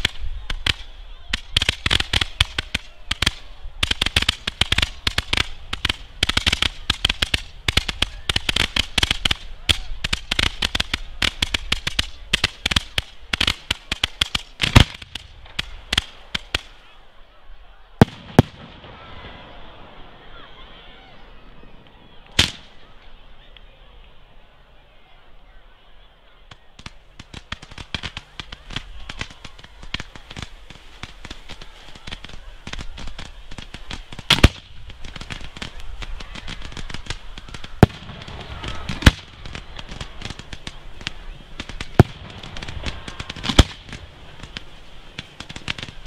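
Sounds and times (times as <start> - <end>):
fireworks bangs: 0.0 - 16.8, 18.0 - 20.6, 21.4 - 22.9, 26.5 - 46.0.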